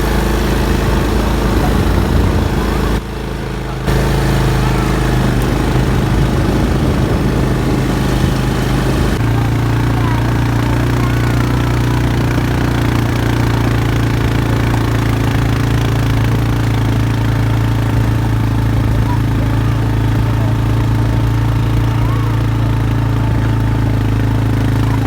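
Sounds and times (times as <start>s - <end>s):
quad bike engine drone: 0.0s - 25.0s.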